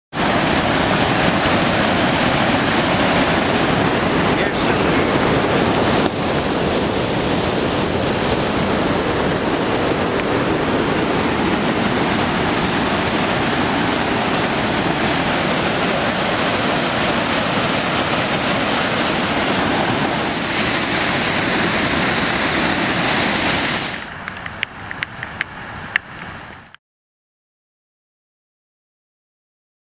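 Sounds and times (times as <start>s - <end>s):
floodwater rushing: 0.1s - 26.6s.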